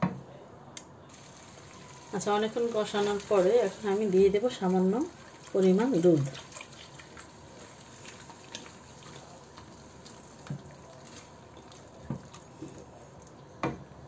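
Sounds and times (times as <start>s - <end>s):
wet sauce sloshing: 1.5s - 13.4s.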